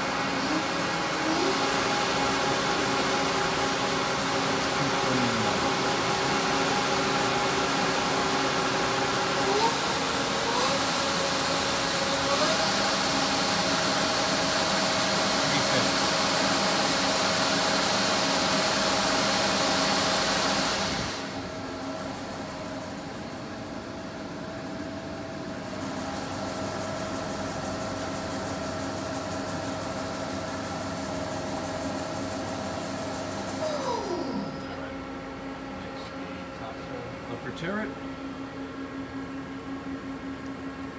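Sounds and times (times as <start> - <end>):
lathe machine hum: 0.0 - 35.6.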